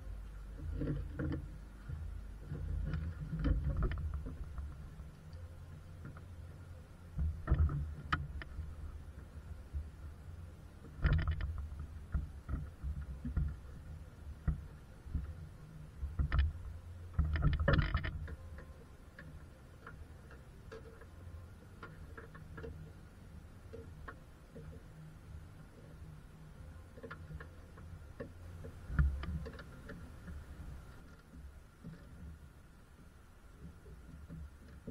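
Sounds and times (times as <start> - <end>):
low steady rumble: 0.0 - 34.9.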